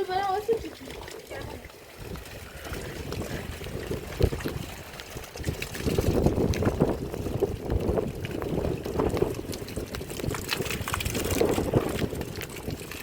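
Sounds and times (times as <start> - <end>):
liquid sloshing and splashing: 0.0 - 13.0.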